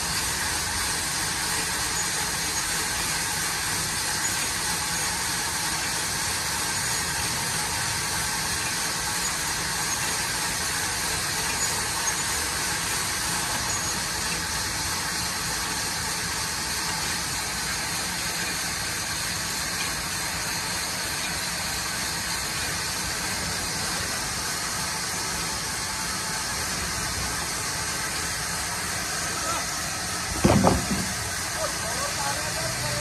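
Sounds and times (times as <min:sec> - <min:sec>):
engine hum: 0:00.0 - 0:33.0
hiss: 0:00.0 - 0:33.0.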